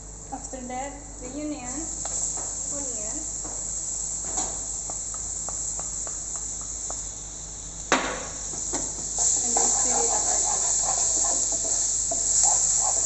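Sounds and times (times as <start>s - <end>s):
garlic and onion sizzling in butter: 1.6s - 13.0s.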